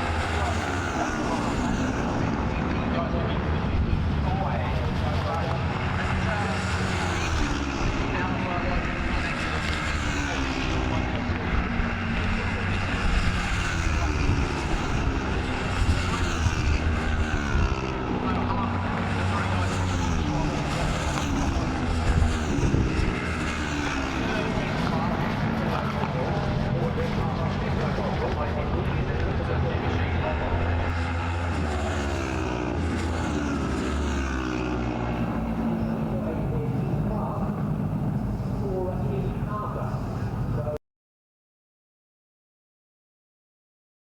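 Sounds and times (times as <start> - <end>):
racing motorcycle engines droning: 0.0 - 40.8.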